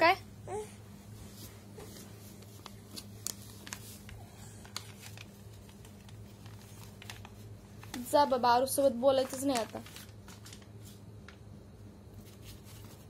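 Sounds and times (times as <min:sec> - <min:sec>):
steady low hum: 0:00.0 - 0:13.0
paper rustling and crinkling: 0:01.3 - 0:11.4, 0:12.1 - 0:13.0.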